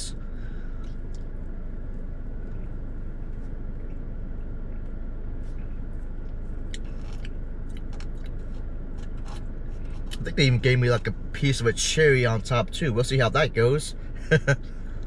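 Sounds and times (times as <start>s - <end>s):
car interior hum: 0.0s - 15.0s.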